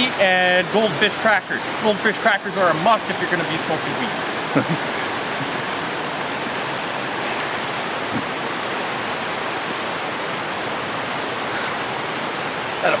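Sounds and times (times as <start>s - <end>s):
fast-running creek: 0.0s - 13.0s.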